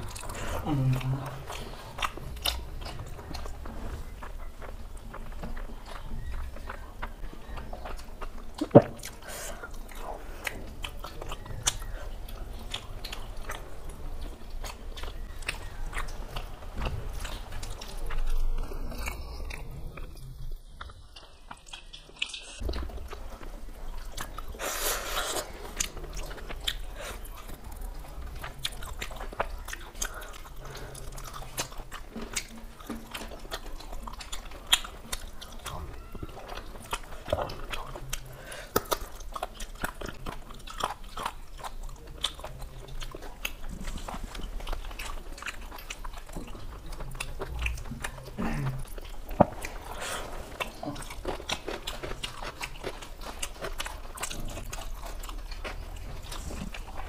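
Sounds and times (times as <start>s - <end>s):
wet chewing and biting: 0.0s - 57.0s.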